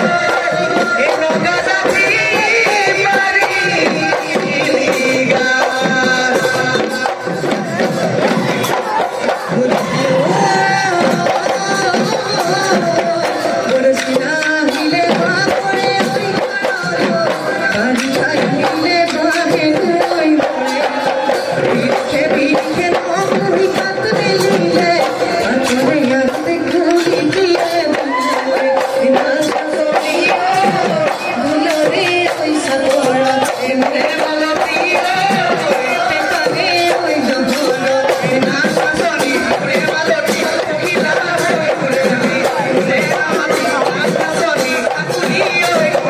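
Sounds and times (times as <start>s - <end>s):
dhol drums beating: 0.0s - 46.0s
person singing: 0.0s - 46.0s.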